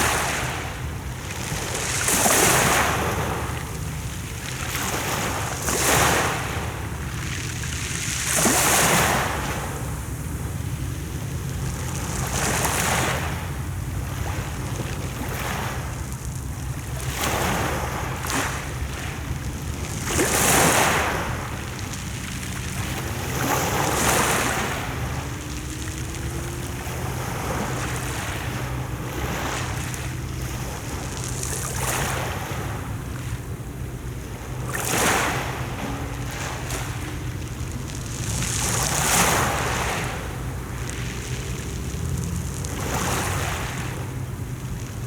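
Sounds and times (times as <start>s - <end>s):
sea waves washing onto shore: 0.0s - 45.0s.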